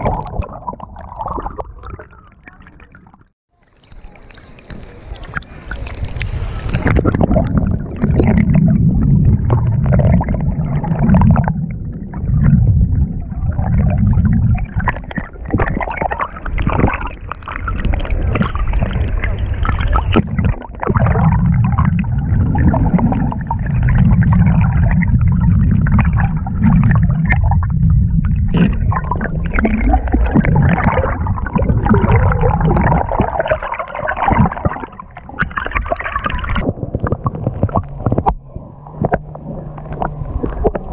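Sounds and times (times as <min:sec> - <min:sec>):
muffled underwater water rumble: 0:00.0 - 0:40.9
water gurgling and sloshing: 0:00.0 - 0:40.9.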